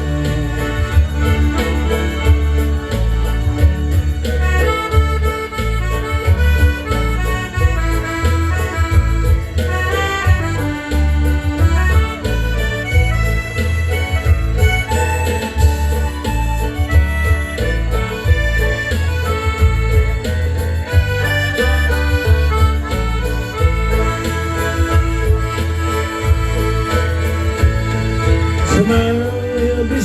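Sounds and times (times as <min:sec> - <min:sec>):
accordion melody: 0:00.0 - 0:30.0
steady bass beat: 0:00.0 - 0:30.0.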